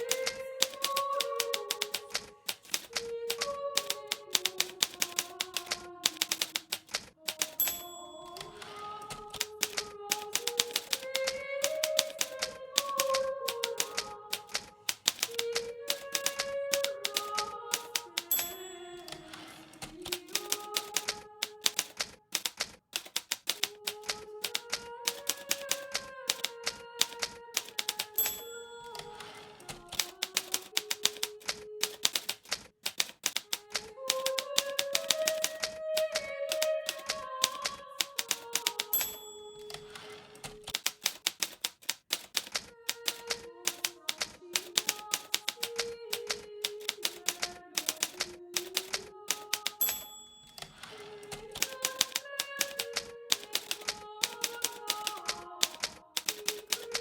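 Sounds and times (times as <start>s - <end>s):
manual typewriter clacking: 0.0s - 57.0s.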